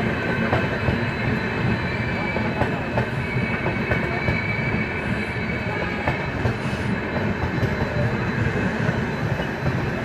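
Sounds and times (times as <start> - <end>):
train wheels rumbling on rails: 0.0 - 10.0
high wheel squeal: 0.8 - 10.0.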